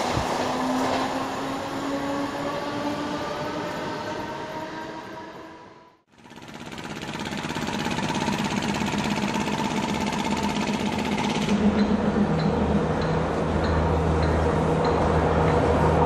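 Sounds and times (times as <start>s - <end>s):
train approaching rattling buzz: 0.0s - 16.0s.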